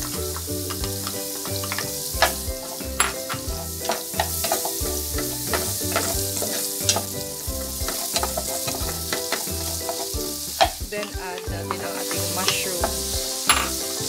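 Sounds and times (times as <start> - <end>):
butter and garlic sizzling: 0.0 - 14.0
spatula scraping a pan: 0.4 - 14.0.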